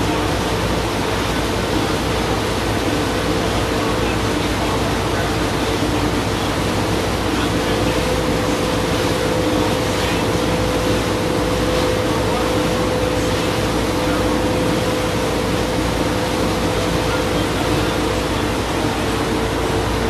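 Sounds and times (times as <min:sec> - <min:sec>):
churning water: 0:00.0 - 0:20.0
motorboat engine drone: 0:00.0 - 0:20.0.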